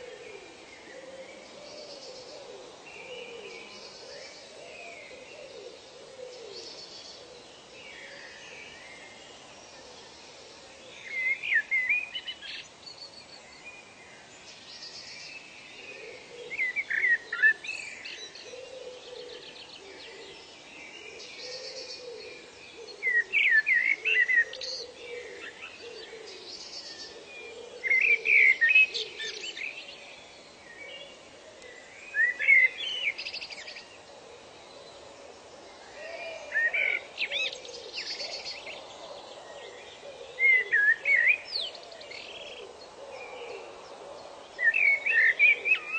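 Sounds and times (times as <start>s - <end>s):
steady background hiss: 0.0s - 45.9s.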